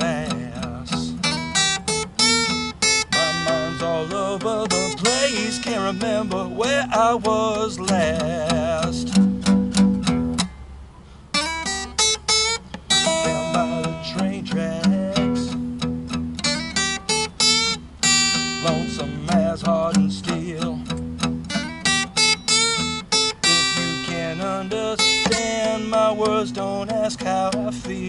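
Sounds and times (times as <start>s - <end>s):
acoustic blues guitar: 0.0s - 28.0s.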